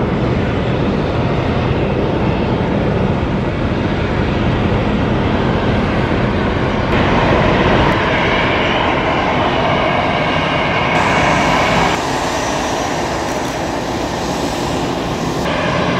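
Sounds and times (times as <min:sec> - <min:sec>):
jet engine whine: 0:00.0 - 0:15.9
jet engines rumbling: 0:00.0 - 0:15.9.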